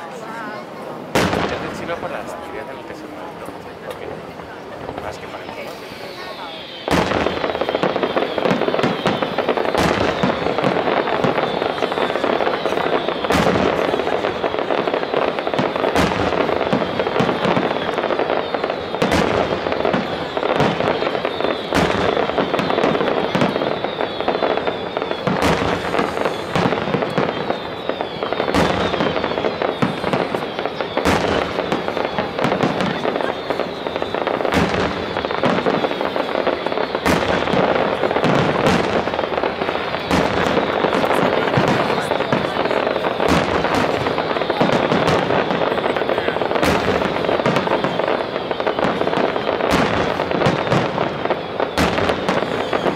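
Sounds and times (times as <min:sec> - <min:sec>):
dense crackle of small fireworks: 0:00.0 - 0:52.9.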